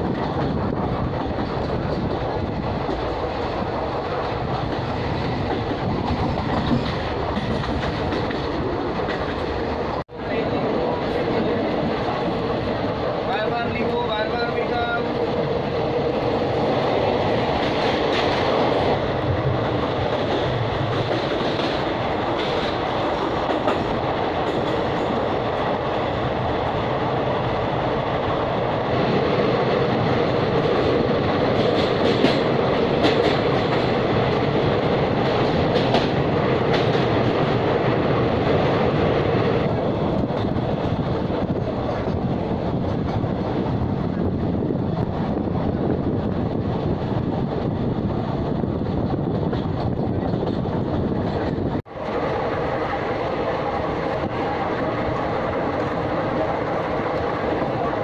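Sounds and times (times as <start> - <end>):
train wheel and rail noise: 0.0 - 58.0
wheels clickety-clack over rail joints: 0.0 - 58.0.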